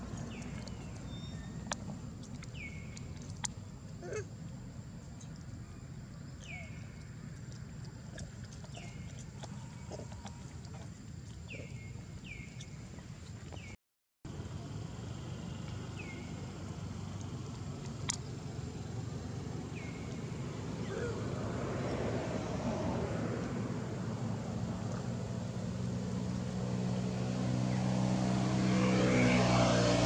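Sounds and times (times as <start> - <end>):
low outdoor background: 0.0 - 30.0.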